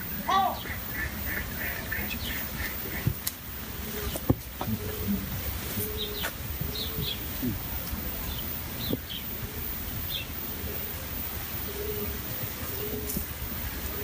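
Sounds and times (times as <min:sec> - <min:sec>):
dove cooing: 0:00.0 - 0:14.0
small birds chirping: 0:00.0 - 0:14.0.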